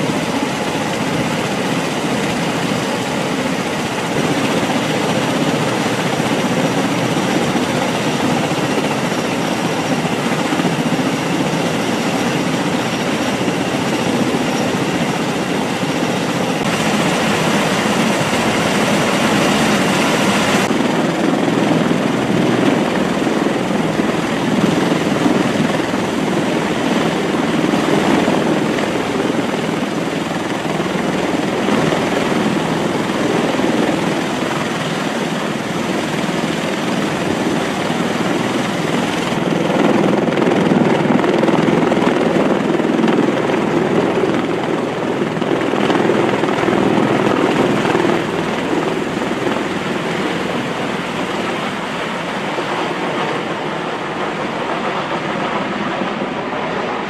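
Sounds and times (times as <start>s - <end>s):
aircraft engines and rotor wash: 0.0s - 57.0s.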